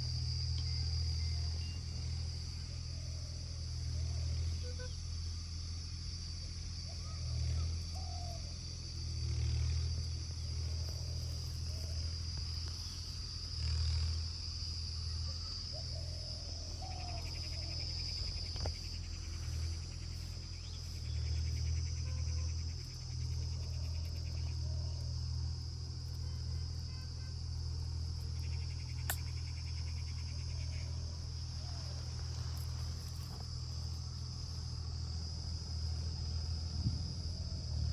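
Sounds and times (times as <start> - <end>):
insects trilling: 0.0 - 37.9.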